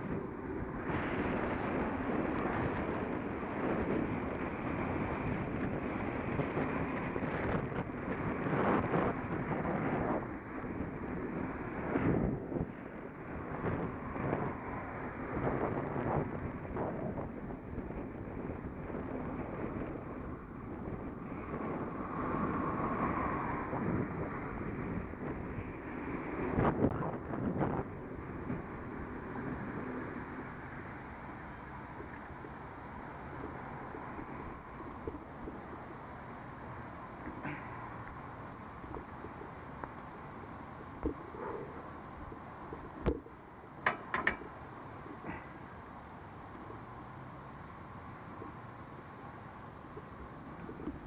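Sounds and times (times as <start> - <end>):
car passing: 0.0 - 17.3, 19.6 - 43.3
wind rushing over microphone: 0.0 - 45.5, 48.1 - 51.0
road noise: 0.0 - 51.0.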